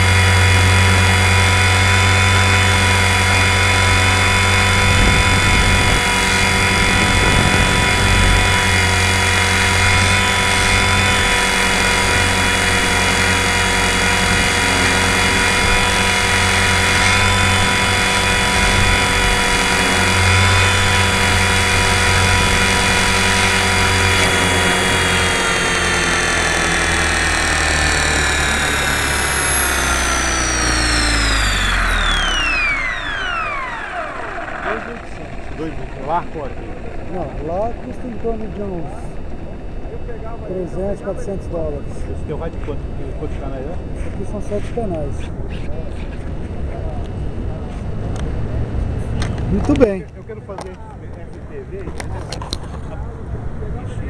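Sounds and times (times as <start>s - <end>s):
electric motor and gears whining: 0.0s - 54.0s
low rotor hum: 0.0s - 54.0s.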